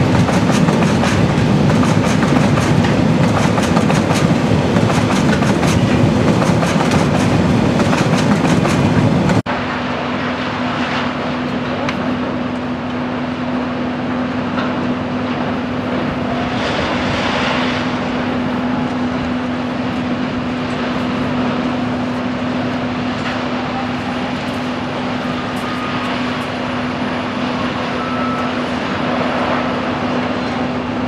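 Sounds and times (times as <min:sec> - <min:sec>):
train rushing: 0:00.0 - 0:12.2, 0:14.7 - 0:31.0
diesel locomotive engine drone: 0:00.0 - 0:31.0.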